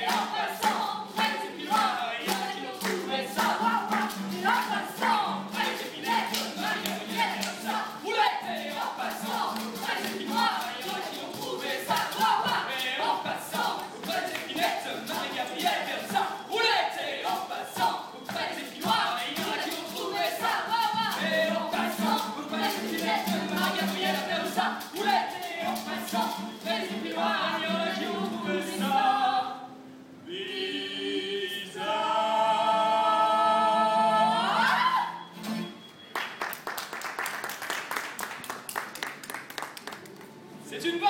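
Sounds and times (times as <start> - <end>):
acoustic guitar: 0.0 - 30.6, 31.5 - 36.9
voices singing together: 0.0 - 35.8.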